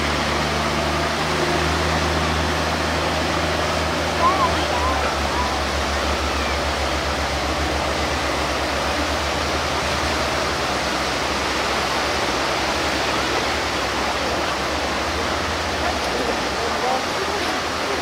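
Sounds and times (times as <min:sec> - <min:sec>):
surf washing over beach: 0:00.0 - 0:18.0
tractor engine running: 0:00.0 - 0:18.0.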